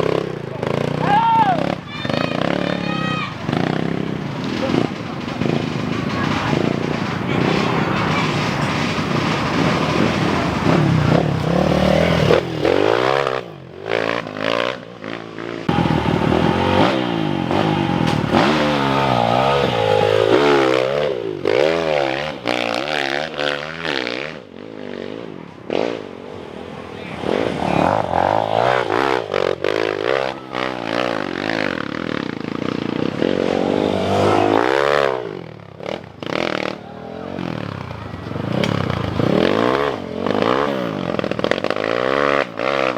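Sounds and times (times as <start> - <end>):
motocross motorcycles revving past: 0.0 - 42.9.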